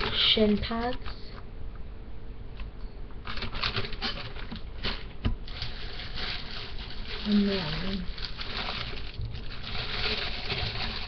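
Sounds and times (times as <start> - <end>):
plastic packaging rustling: 0.0 - 1.2, 3.2 - 11.0.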